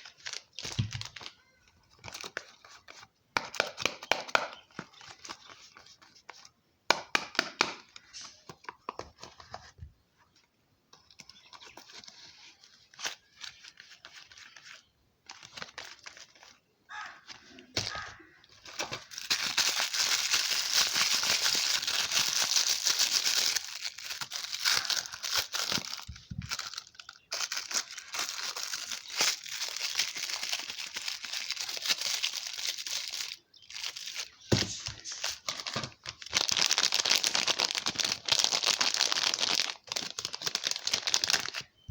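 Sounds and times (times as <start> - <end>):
wrapping being crinkled: 0.0 - 3.1, 11.1 - 41.9.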